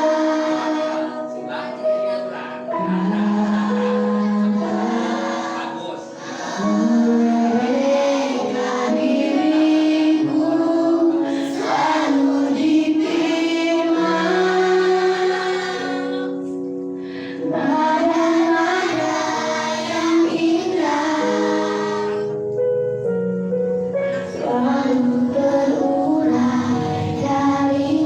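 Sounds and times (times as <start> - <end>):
children singing together: 0.0 - 16.5, 17.4 - 22.4, 24.1 - 28.0
instrumental accompaniment: 0.0 - 28.0.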